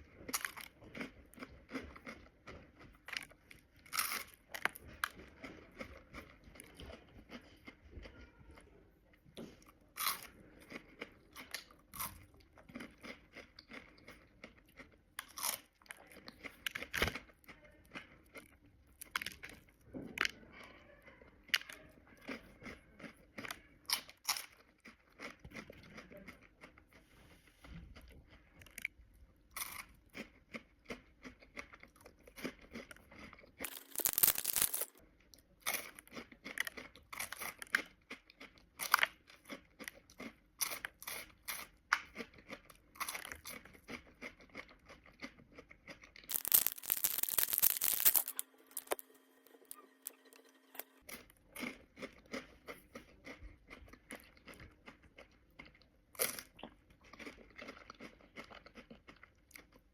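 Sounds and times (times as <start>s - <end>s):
crunching and chewing wafers: 0.0s - 59.9s.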